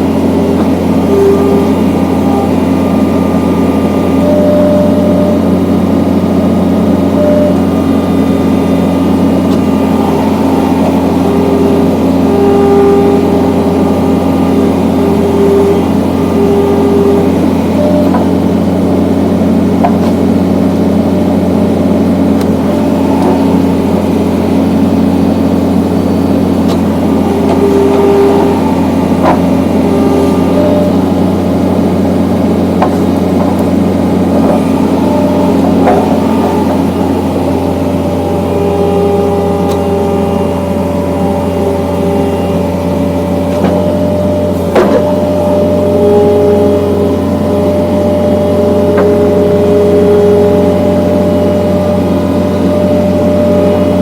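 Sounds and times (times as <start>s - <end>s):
engine running steadily: 0.0s - 54.0s
hydraulic log splitter: 0.0s - 54.0s.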